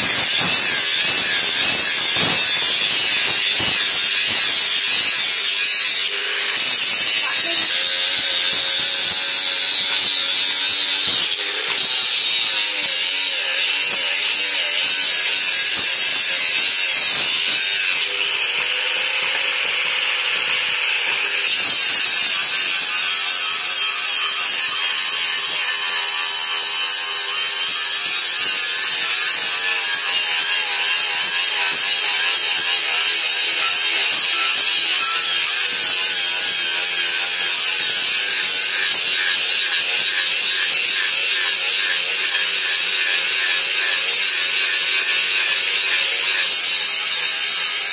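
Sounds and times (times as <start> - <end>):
angle grinder grinding metal: 0.0 - 47.9.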